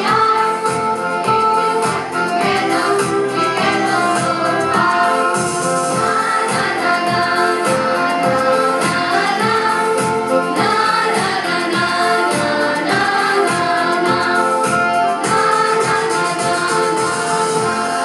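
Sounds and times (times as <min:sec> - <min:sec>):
steady beat: 0:00.0 - 0:17.8
voices singing together: 0:00.0 - 0:18.0.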